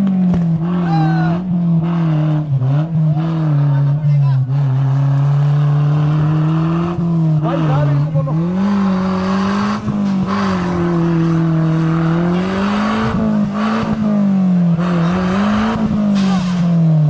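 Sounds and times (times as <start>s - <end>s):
vehicle engine revving high: 0.0s - 17.0s.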